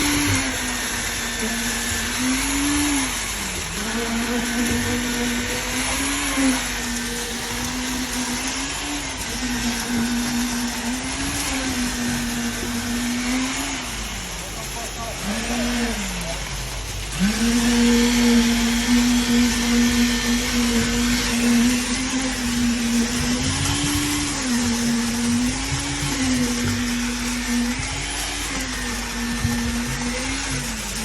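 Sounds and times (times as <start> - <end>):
motor humming whine: 0.0 - 31.0.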